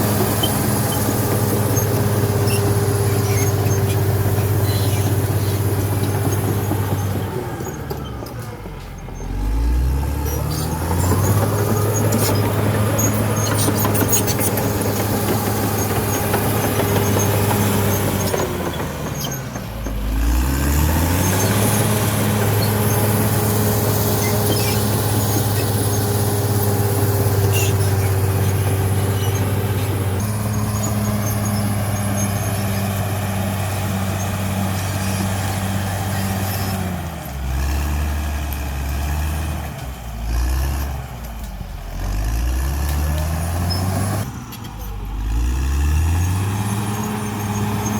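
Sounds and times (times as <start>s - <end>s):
bulldozer diesel engine: 0.0s - 47.9s.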